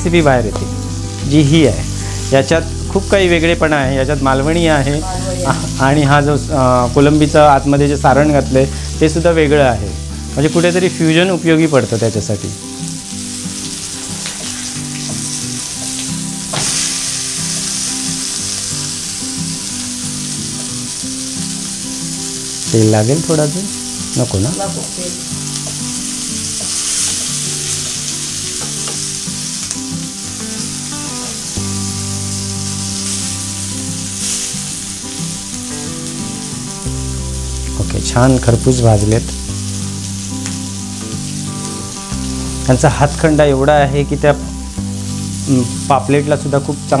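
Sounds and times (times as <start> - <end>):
fish frying in oil: 7.0 - 47.0.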